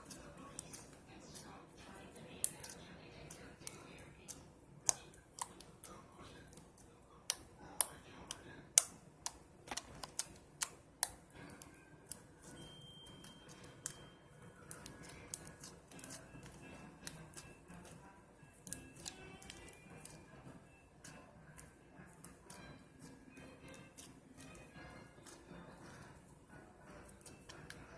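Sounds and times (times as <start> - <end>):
slime clicking and popping: 2.4 - 20.4, 21.0 - 26.1.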